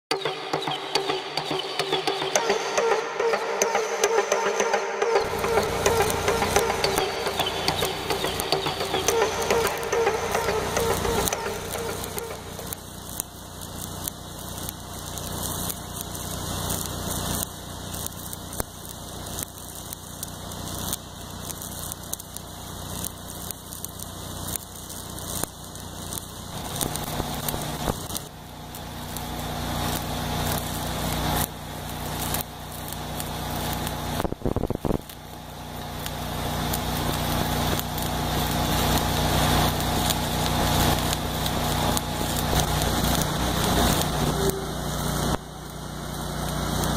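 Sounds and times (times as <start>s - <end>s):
welding arc crackling and sizzling: 0.1s - 46.9s.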